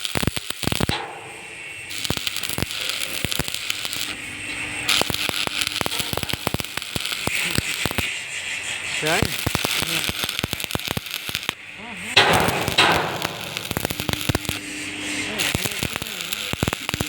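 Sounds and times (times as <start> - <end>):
welding arc crackling and popping: 0.0 - 17.0.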